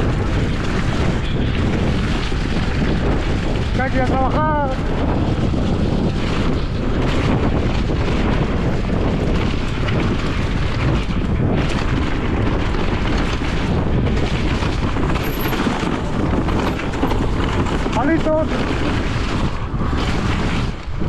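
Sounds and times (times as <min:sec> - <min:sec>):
bike knocking and rattling: 0:00.0 - 0:21.0
tyres rumbling over dirt trail: 0:00.0 - 0:21.0
wind buffeting microphone: 0:00.0 - 0:21.0.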